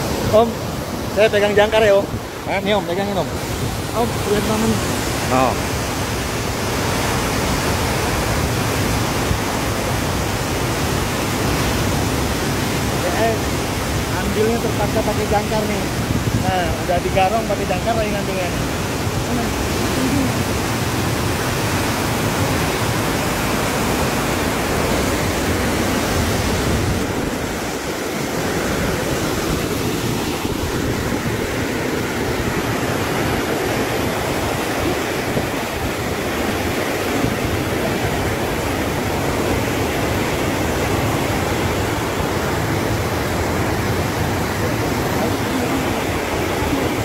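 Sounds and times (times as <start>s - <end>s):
turbulent water rushing: 0.0s - 47.0s.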